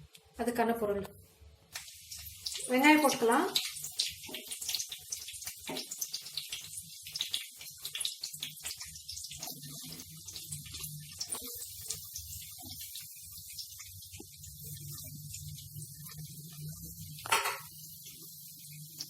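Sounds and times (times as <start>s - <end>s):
onions sizzling in oil: 1.7s - 19.0s.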